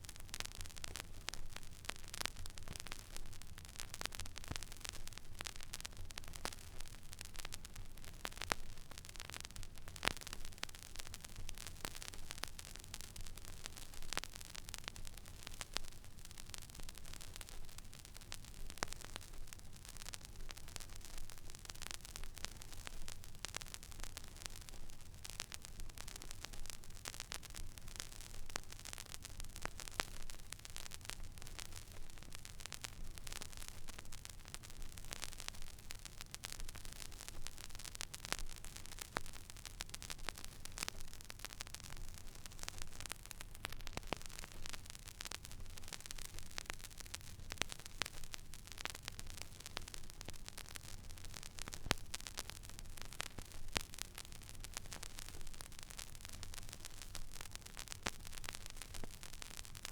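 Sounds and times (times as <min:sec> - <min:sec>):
vinyl crackles and pops: 0:00.0 - 0:59.9.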